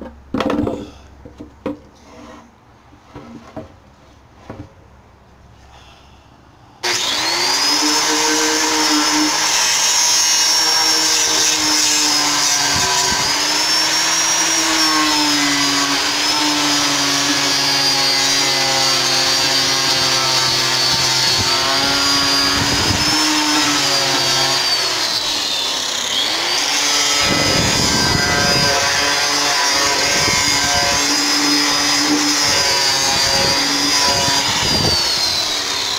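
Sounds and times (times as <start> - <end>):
electric sander running on wood: 6.8 - 35.9.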